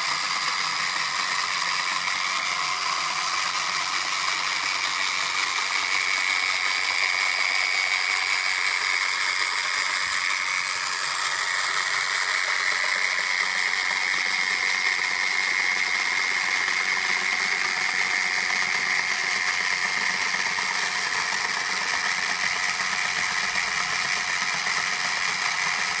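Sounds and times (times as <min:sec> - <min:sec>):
robot vacuum cleaner whirring: 0:00.0 - 0:26.0.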